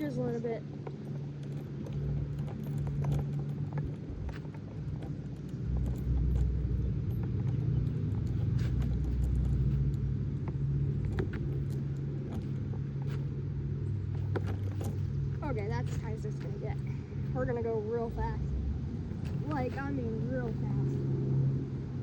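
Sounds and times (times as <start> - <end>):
metal swing chains clinking: 0.0 - 18.4.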